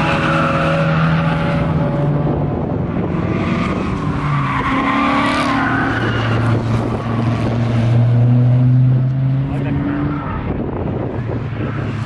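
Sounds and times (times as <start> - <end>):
race cars passing: 0.0 - 12.0.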